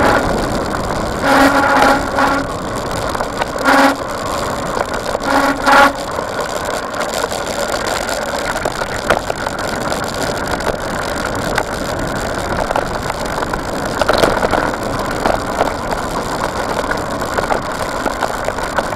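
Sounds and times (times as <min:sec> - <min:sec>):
bike rattling over bumps: 0:00.0 - 0:18.9
bike tyres rushing on dirt: 0:00.0 - 0:18.9.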